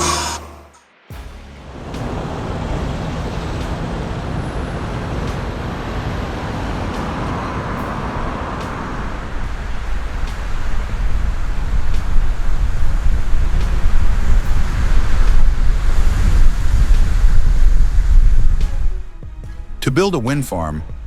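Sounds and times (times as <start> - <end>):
heavy vehicle engine rumbling: 1.2 - 19.9.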